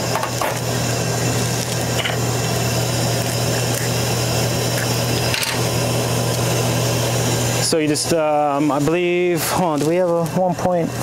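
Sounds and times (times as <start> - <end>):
machine electrical hum and fan hiss: 0.0 - 11.0.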